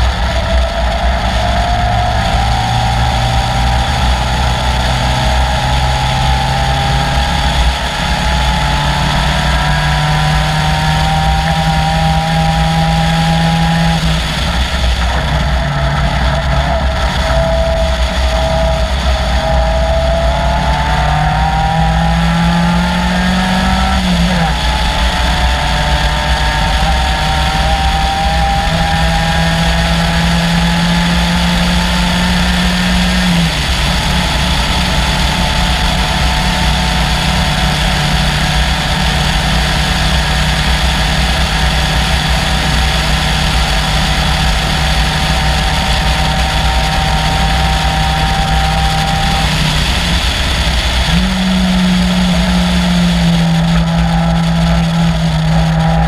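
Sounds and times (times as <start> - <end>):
car engine running hard: 0.0 - 56.0
rushing noise: 0.0 - 56.0.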